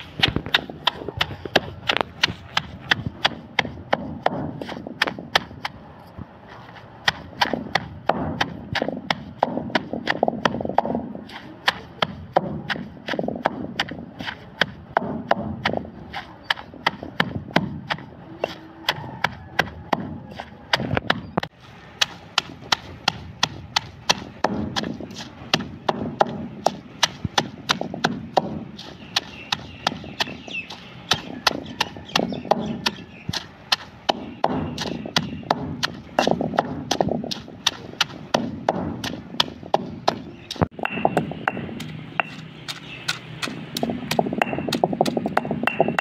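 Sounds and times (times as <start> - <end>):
stone pestle pounding in mortar: 0.0 - 5.8, 7.0 - 46.0.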